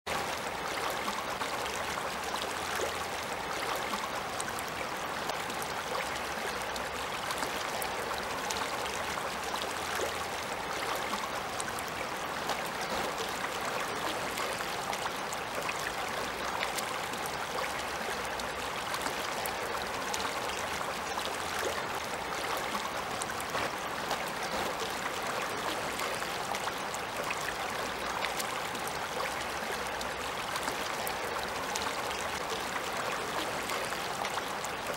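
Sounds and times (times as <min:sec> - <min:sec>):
river running over stones: 0:00.1 - 0:34.9.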